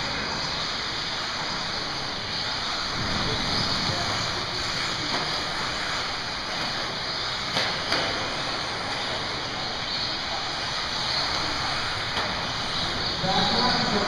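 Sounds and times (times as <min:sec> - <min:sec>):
rc cars motors and tyres hissing: 0:00.0 - 0:14.0.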